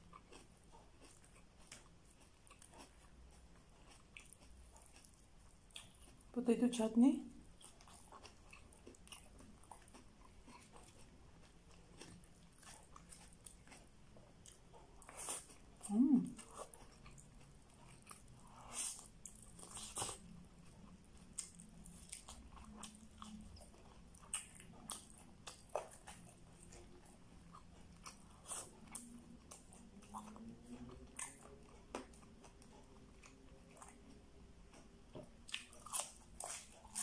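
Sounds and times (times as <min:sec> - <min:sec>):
quiet chewing: 0:00.0 - 0:06.4, 0:07.3 - 0:37.0.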